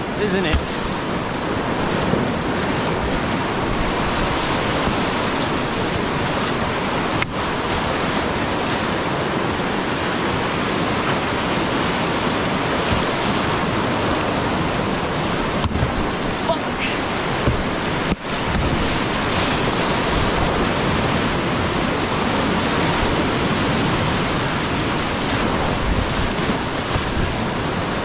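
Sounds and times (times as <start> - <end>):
rapids rushing and churning: 0.0 - 28.0.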